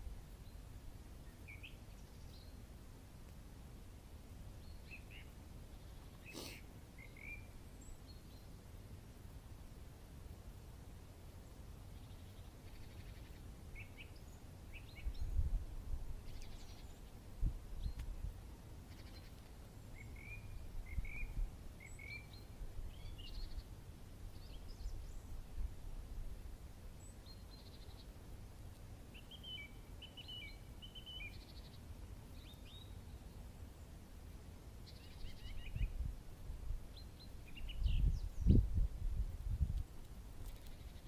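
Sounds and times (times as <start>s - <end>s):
small birds chirping: 0.0s - 3.0s, 4.5s - 8.7s, 11.4s - 15.6s, 16.2s - 26.0s, 26.6s - 34.0s, 34.7s - 36.1s, 36.8s - 38.8s, 39.6s - 41.0s.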